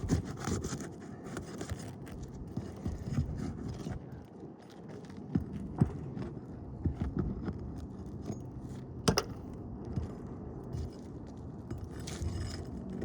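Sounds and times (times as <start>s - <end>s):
scraping and rustling shingles: 0.0s - 8.8s, 10.0s - 13.0s.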